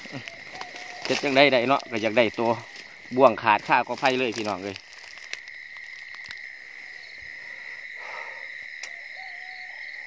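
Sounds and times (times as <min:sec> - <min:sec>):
insect drone: 0:00.0 - 0:10.0
pulsing insect trill: 0:00.0 - 0:10.0.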